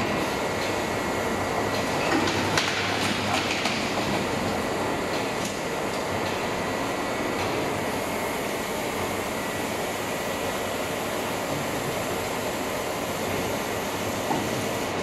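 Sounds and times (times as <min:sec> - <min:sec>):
machinery and conveyor running: 0:00.0 - 0:15.0.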